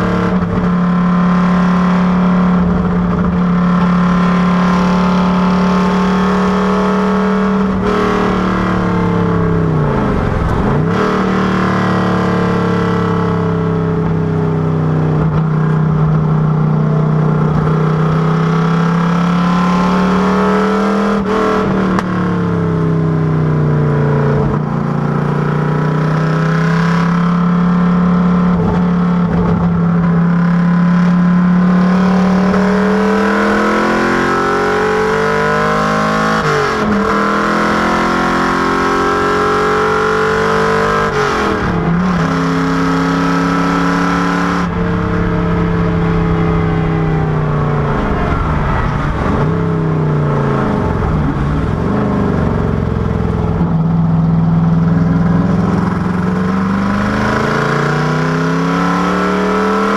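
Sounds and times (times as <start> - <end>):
car engine revving at speed: 0.0 - 59.9.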